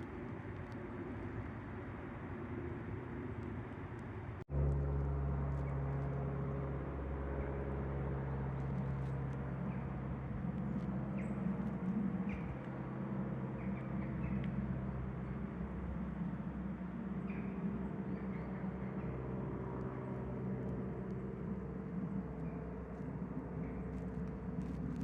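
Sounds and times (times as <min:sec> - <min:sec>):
distant road traffic rumble: 0:00.0 - 0:25.0.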